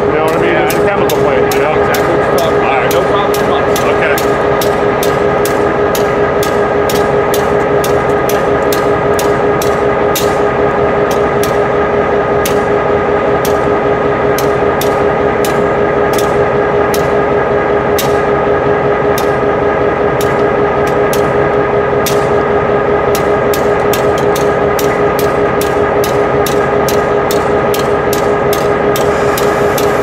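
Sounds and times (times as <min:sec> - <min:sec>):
railroad crossing bells ringing: 0:00.0 - 0:30.0.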